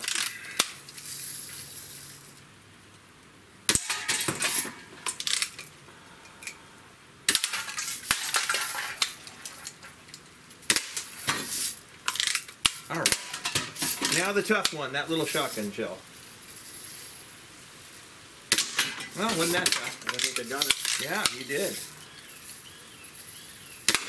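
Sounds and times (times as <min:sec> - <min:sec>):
metallic clinks of pellets hitting cans: 0:00.0 - 0:02.4, 0:03.7 - 0:05.7, 0:07.3 - 0:24.0.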